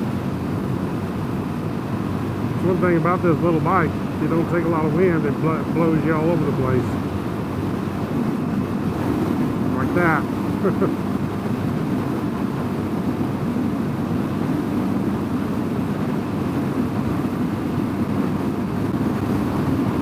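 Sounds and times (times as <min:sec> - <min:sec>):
wind rushing on microphone: 0:00.0 - 0:20.0.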